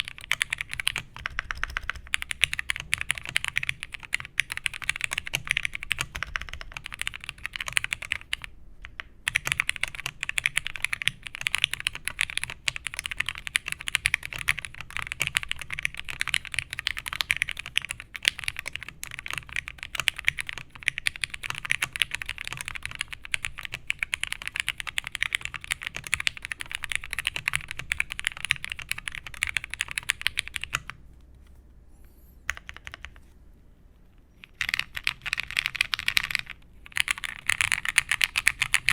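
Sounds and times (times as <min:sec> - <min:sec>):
typing on a mechanical keyboard: 0:00.0 - 0:31.0, 0:32.5 - 0:33.2, 0:34.4 - 0:38.9.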